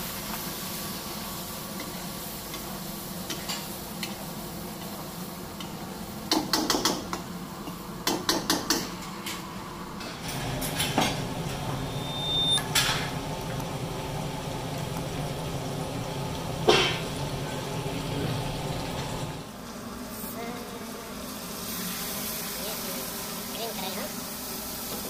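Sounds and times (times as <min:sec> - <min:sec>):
chicken frying in hot oil: 0:00.0 - 0:08.9, 0:10.0 - 0:19.6, 0:21.2 - 0:25.0.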